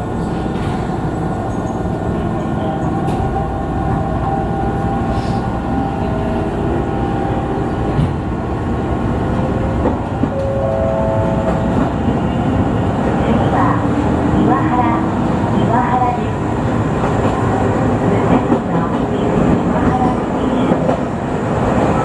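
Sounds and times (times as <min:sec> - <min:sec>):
train wheels rumbling: 0:00.0 - 0:22.0.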